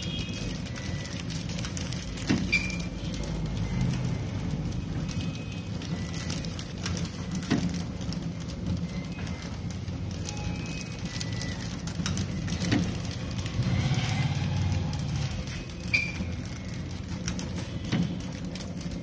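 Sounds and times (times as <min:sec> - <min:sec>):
light crackle: 0:00.0 - 0:19.0
packing machine humming: 0:00.0 - 0:19.0.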